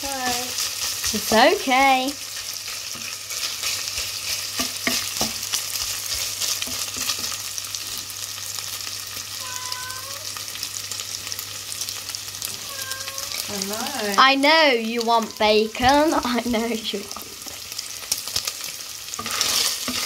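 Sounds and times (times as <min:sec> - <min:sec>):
bacon sizzling in a pan: 0:00.0 - 0:20.0.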